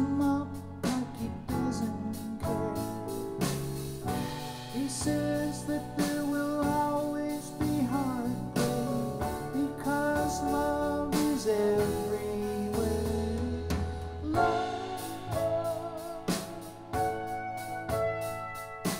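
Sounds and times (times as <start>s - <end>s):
song over loudspeakers: 0.0s - 3.3s, 4.1s - 18.9s.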